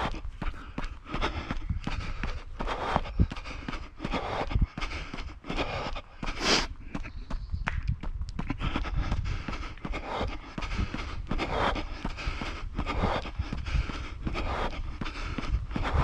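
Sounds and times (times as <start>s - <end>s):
runner breathing: 0.0s - 16.0s
running footsteps on gravel: 0.0s - 16.0s.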